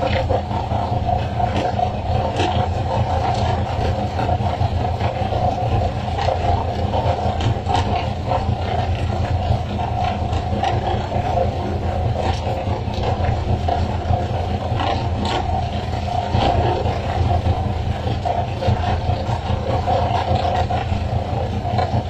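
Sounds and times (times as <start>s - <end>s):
boat engine drone: 0.0s - 22.0s.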